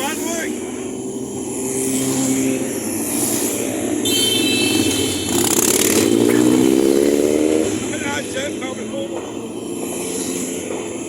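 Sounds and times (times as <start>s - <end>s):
motorcycle engine revving: 0.0s - 11.0s
motorcycle engines running: 0.0s - 11.0s.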